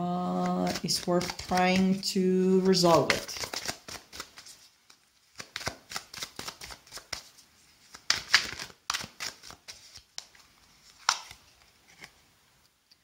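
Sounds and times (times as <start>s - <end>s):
cards being shuffled: 0.3s - 12.2s.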